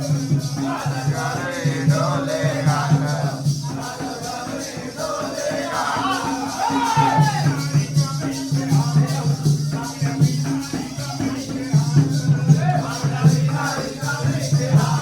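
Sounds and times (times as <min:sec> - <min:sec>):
jingling shaker rhythm: 0:00.0 - 0:15.0.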